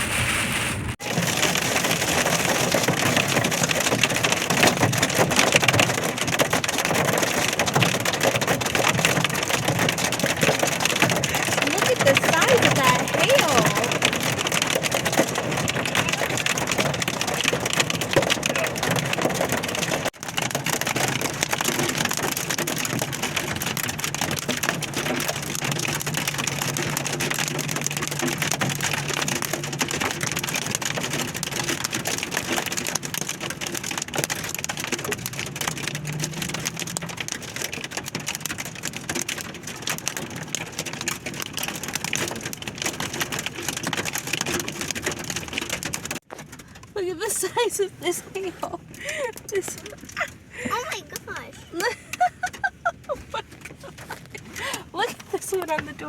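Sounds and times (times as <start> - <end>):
heavy rain and hail pelting: 0.0 - 56.0.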